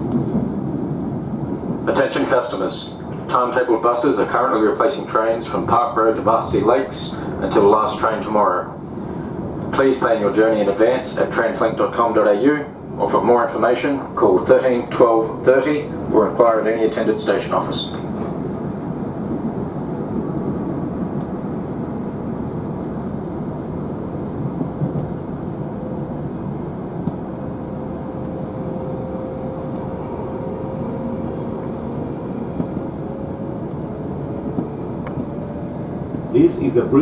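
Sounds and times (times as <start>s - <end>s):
train running rumble: 0.0s - 37.0s.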